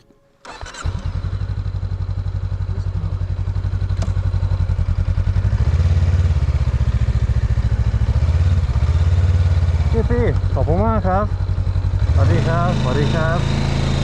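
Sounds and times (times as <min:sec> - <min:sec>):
motorbike engine idling: 0:00.4 - 0:14.0.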